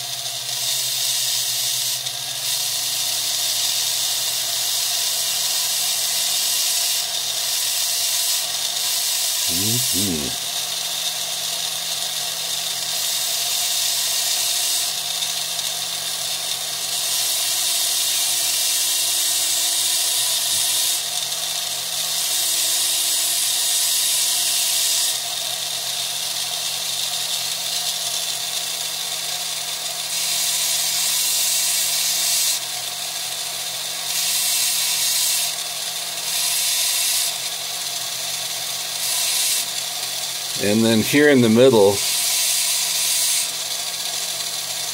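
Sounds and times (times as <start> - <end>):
rotary tool grinding stone: 0.0 - 44.9.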